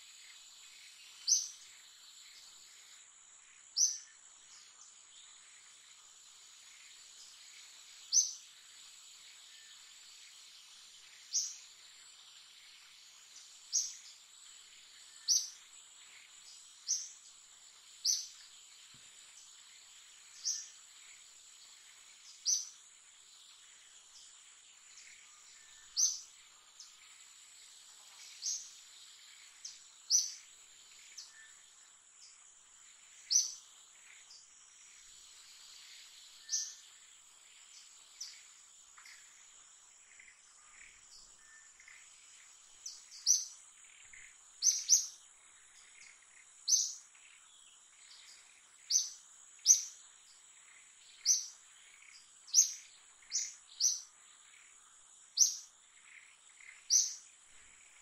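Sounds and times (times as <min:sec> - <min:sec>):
bird chirping: 0:00.0 - 0:58.0
insect drone: 0:00.0 - 0:58.0.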